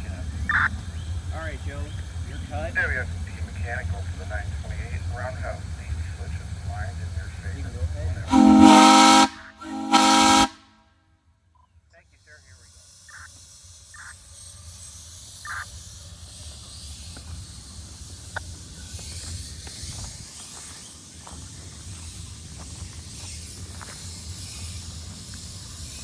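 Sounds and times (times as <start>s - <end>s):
steam locomotive hissing: 0.0s - 10.7s, 12.0s - 26.0s.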